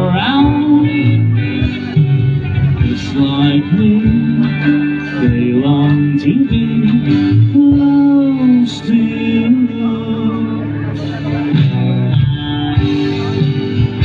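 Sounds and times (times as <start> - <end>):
bass and drums: 0.0 - 14.0
electric guitar melody: 0.0 - 14.0.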